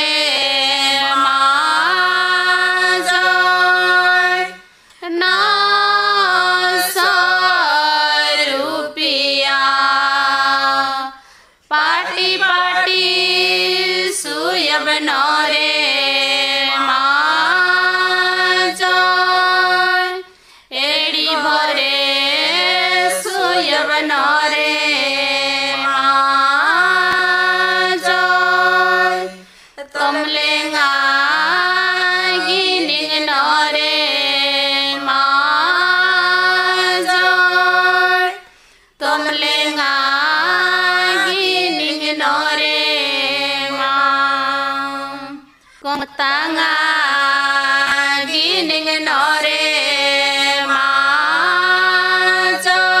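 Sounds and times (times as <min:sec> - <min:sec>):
women singing folk song: 0:00.0 - 0:53.0.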